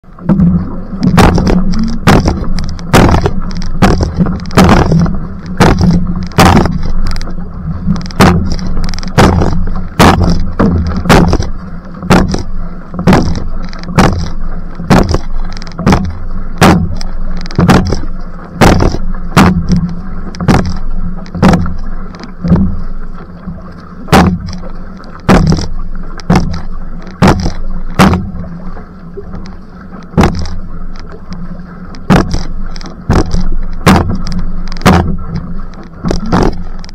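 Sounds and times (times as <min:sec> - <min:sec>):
water rushing along hull: 0:00.0 - 0:36.9
paddle blade splashing into water: 0:00.2 - 0:36.9.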